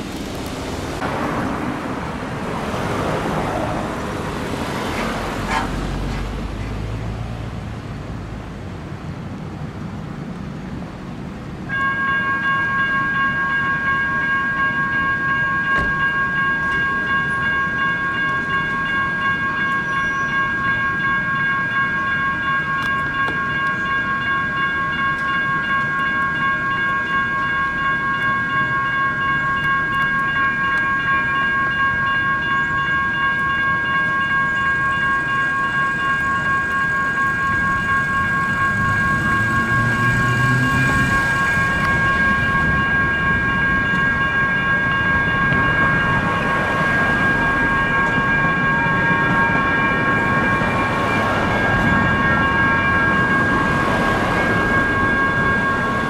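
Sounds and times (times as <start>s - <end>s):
railroad crossing bell ringing: 10.5s - 56.0s.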